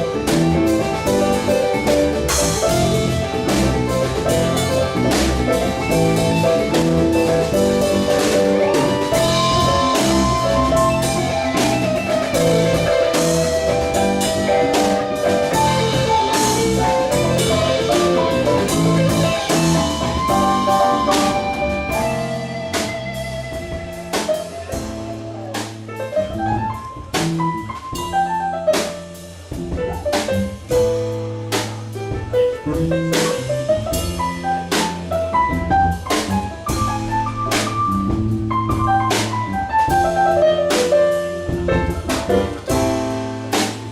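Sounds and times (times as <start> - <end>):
live band playing instrumental: 0.0 - 43.9.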